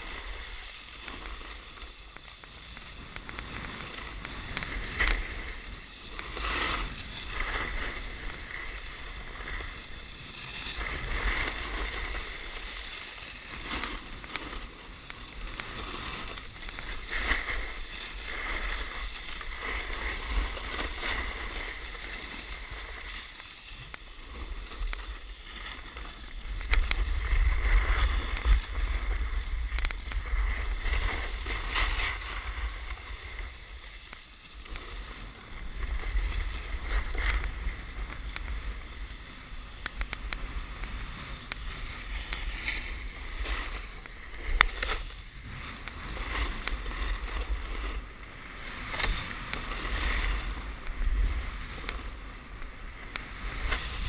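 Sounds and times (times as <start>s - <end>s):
snowboard scraping over snow: 0.0s - 54.0s
wind rumbling on microphone: 0.0s - 54.0s.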